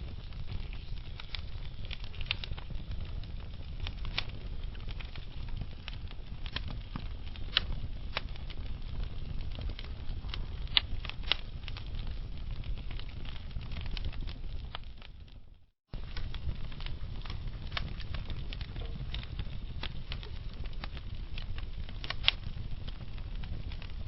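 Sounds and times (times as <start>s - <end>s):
crackles and pops of burning logs: 0.0s - 24.0s
low rumble of flames: 0.0s - 24.0s.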